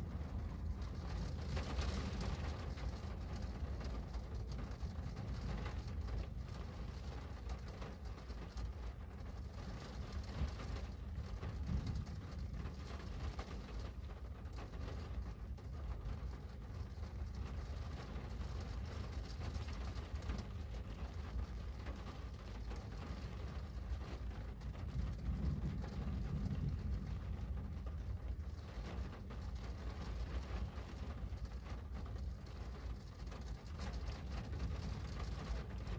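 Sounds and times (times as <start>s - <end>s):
rain on a window: 0.0s - 35.9s
ticks of raindrops: 0.0s - 35.9s.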